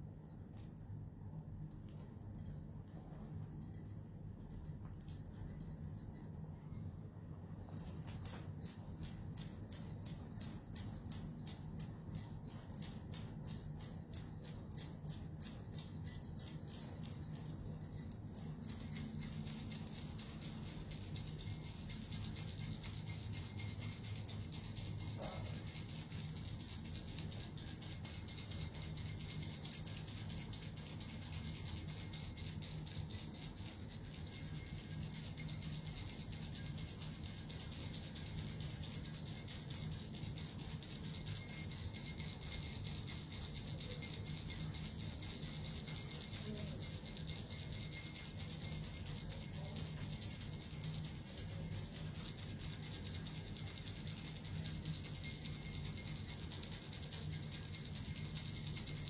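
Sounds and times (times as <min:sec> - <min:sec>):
small bells jingling: 0:00.0 - 0:59.0.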